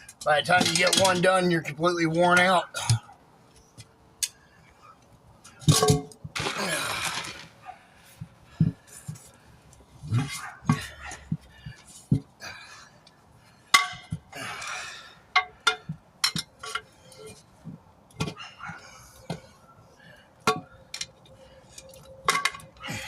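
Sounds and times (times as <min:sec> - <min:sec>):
tire tools clinking on a wheel rim: 0:00.0 - 0:04.5, 0:05.4 - 0:23.0.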